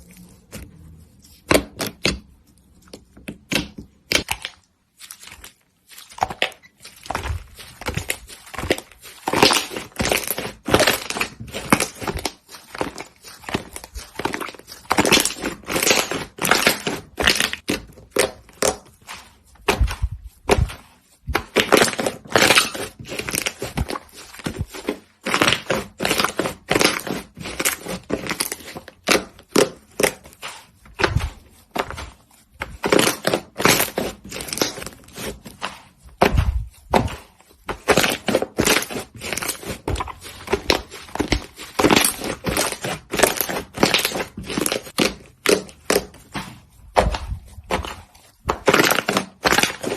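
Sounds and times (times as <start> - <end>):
slime squelching and clicking: 0.0 - 49.9.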